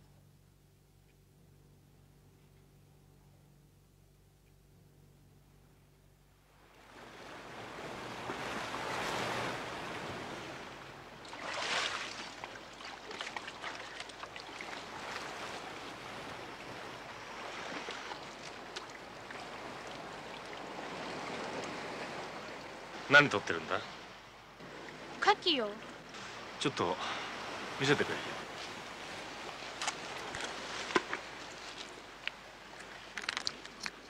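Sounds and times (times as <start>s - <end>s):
sea waves on rocky shore: 6.6s - 34.0s.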